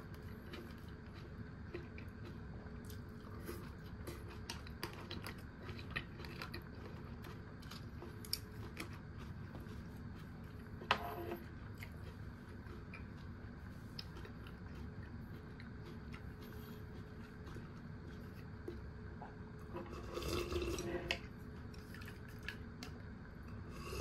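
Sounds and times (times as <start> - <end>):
low steady hum: 0.0 - 24.0
person chewing with crunches: 0.0 - 24.0.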